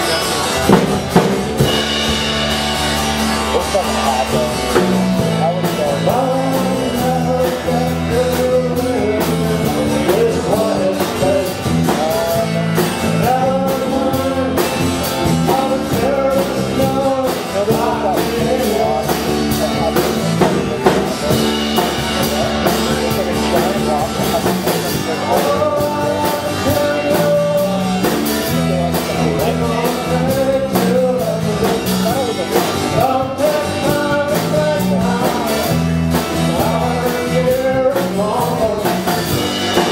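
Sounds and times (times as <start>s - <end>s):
bass guitar: 0.0s - 39.9s
drums: 0.0s - 39.9s
man singing: 0.0s - 39.9s
strummed acoustic guitar: 0.0s - 39.9s.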